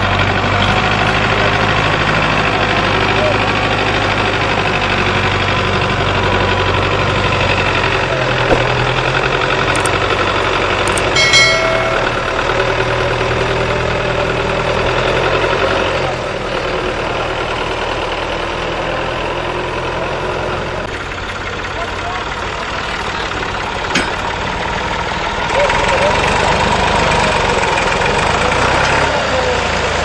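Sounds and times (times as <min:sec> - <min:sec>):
diesel tractor engines running: 0:00.0 - 0:30.0.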